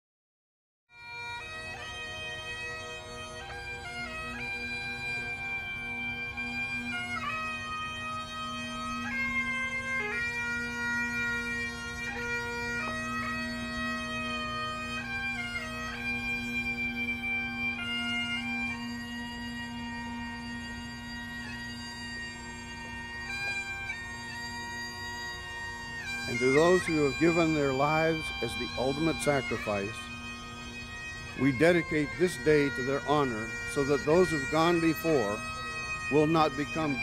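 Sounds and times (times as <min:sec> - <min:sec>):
bagpipes playing a melody: 0:00.9 - 0:37.0.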